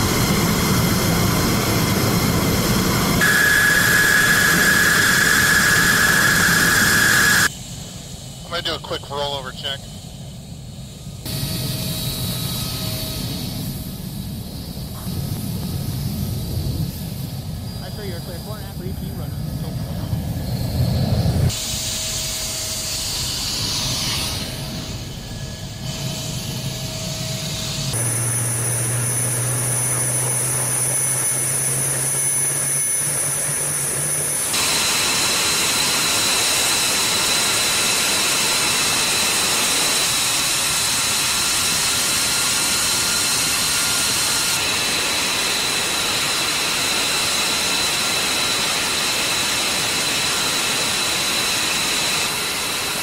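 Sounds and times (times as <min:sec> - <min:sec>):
jet engines roaring with whine: 0:00.0 - 0:53.0.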